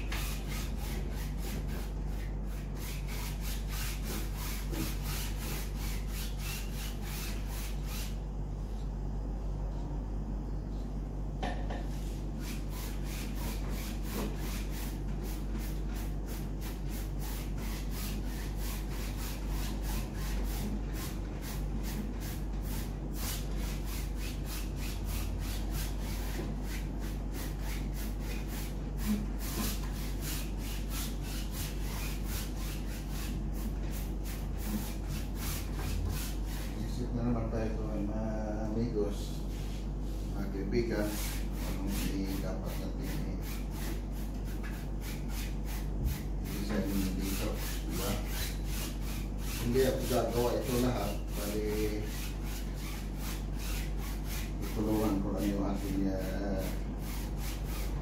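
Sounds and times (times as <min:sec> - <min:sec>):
paintbrush scrubbing on canvas: 0:00.0 - 0:08.2, 0:11.9 - 0:37.7, 0:39.4 - 0:58.0.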